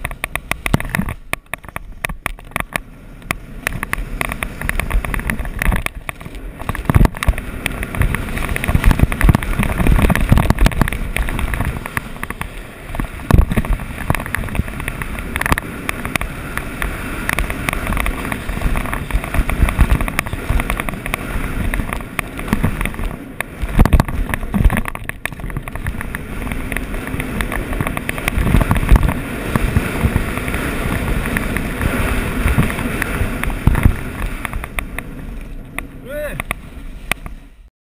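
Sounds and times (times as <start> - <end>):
snowboard knocking on bumps: 0.0 - 35.0
wind buffeting microphone: 0.0 - 37.4
snowboard scraping on snow: 2.9 - 35.6.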